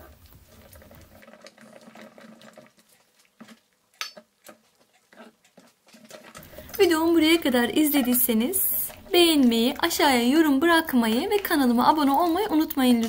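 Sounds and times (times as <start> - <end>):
ladle stirring fruit pulp in strainer: 0.0 - 13.0.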